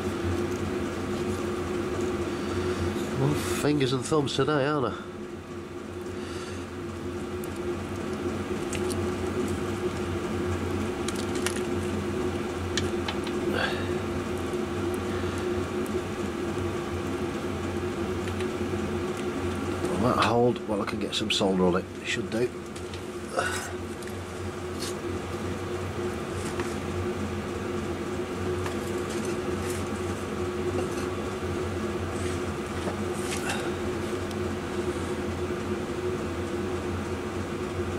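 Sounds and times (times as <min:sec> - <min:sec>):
electric fan humming: 0:00.0 - 0:37.9.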